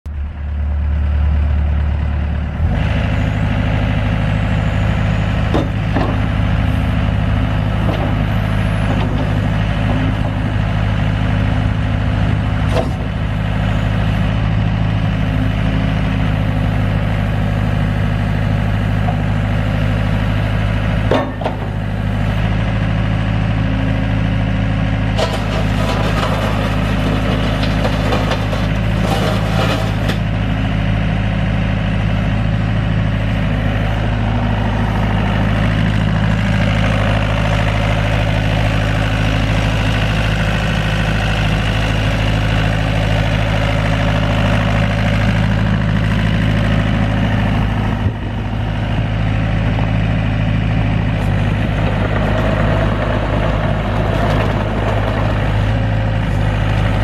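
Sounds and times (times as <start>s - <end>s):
diesel engine running: 0.1s - 57.0s.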